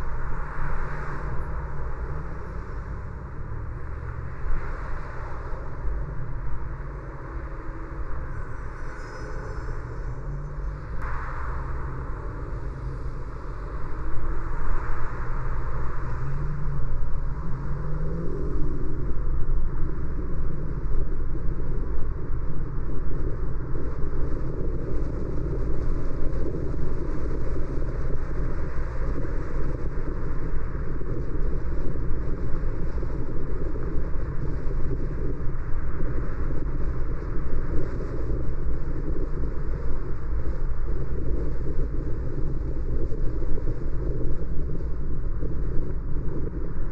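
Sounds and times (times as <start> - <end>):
road and engine rumble: 0.0 - 46.9.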